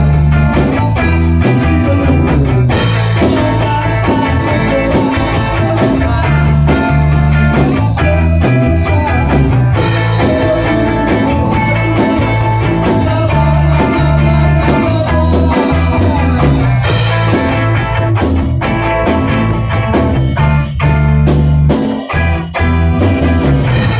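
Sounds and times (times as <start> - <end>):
bass guitar: 0.0 - 23.9
drum kit: 0.0 - 23.9
electric guitar: 0.0 - 23.9.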